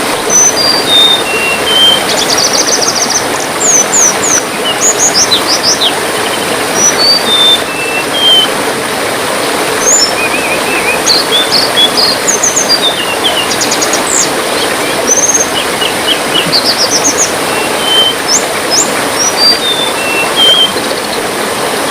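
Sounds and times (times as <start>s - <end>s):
trickling water: 0.0s - 21.9s
songbird chirping and whistling: 0.4s - 8.5s, 9.8s - 18.4s, 19.2s - 20.9s.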